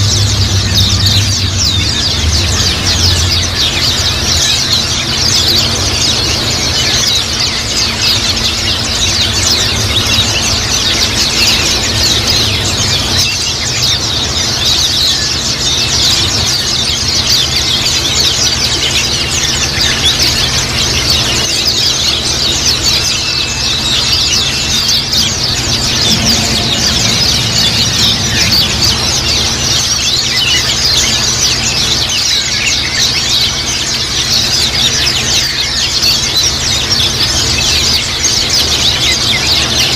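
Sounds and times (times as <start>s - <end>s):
birds chirping and twittering: 0.0s - 39.9s
steady low hum: 0.0s - 39.9s.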